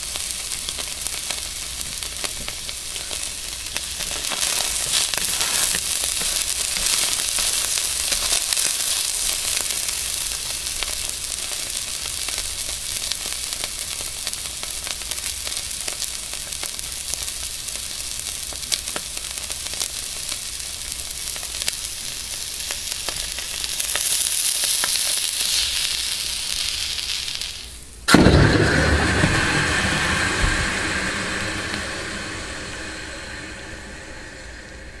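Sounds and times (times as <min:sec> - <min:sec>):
steak sizzling and crackling: 0:00.0 - 0:28.0
louder deeper sizzle: 0:00.0 - 0:35.0.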